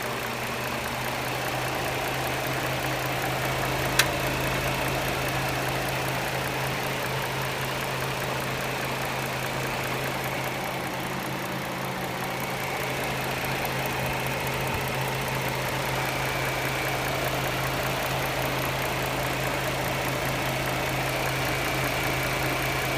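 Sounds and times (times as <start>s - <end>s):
car engine idling: 0.0s - 22.9s
engine ticking: 0.0s - 22.9s.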